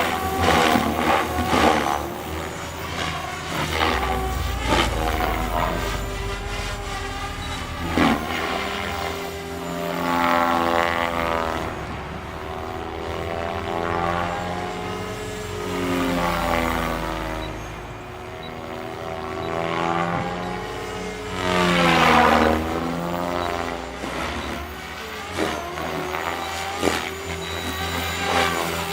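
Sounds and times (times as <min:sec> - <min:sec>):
rc helicopter rotor whine: 0:00.0 - 0:28.9.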